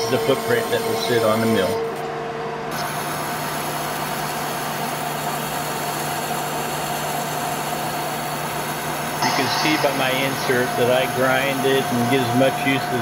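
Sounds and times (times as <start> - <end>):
metal lathe humming: 0.0 - 2.1, 2.7 - 13.0.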